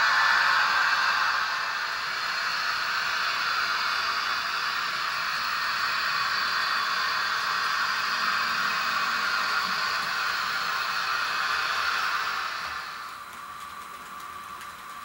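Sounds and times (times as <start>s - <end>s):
model train motor running: 0.0s - 15.0s
model train wheels rolling on rails: 0.0s - 15.0s.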